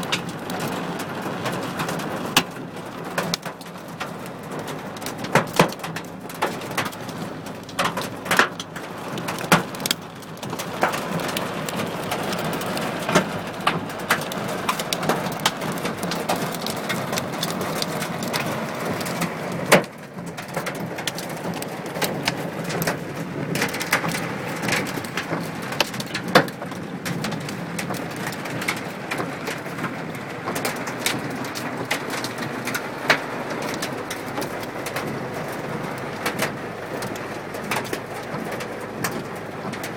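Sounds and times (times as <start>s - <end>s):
hailstones knocking on roof: 0.0s - 39.9s
heavy rain on car roof: 0.0s - 39.9s.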